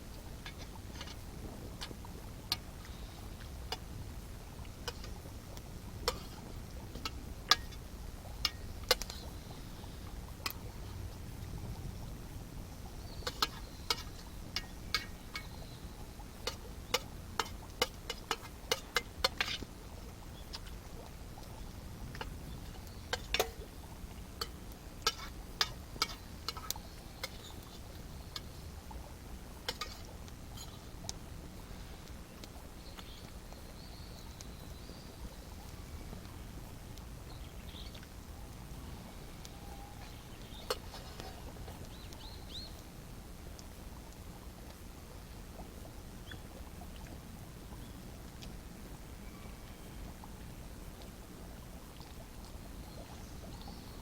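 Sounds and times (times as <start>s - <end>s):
campfire crackling: 0.0s - 54.0s
low steady rumble: 0.0s - 54.0s.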